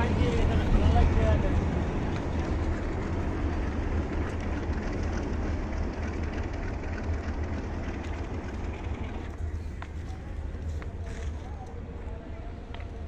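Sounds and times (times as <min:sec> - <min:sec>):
diesel locomotive rumbling on bridge: 0:00.0 - 0:13.0.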